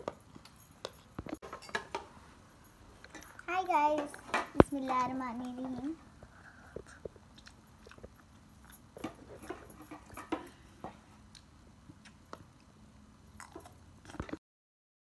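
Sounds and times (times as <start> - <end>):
faint room hum: 0.0 - 14.4.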